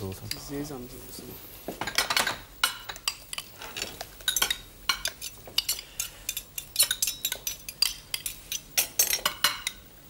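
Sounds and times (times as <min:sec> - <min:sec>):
cutlery clinking on ceramic plates: 0:01.7 - 0:09.9.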